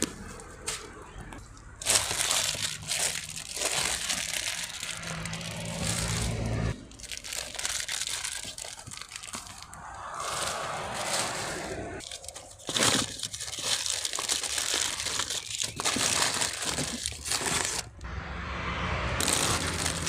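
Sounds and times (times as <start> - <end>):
crinkling crunching noise: 0.0 - 18.1, 19.2 - 20.0.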